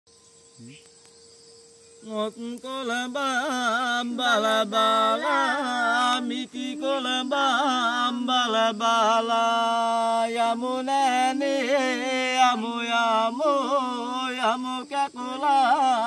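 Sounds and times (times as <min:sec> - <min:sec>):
man and boy singing unaccompanied: 0:02.0 - 0:16.0.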